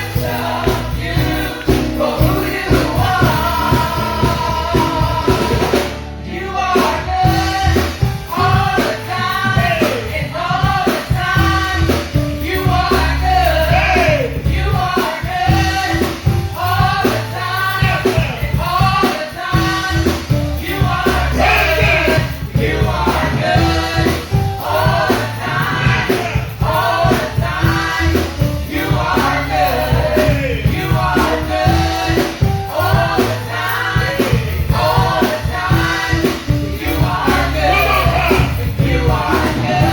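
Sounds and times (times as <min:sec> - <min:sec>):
band with bass and drums: 0:00.0 - 0:39.9
voices singing gospel song: 0:00.0 - 0:39.9.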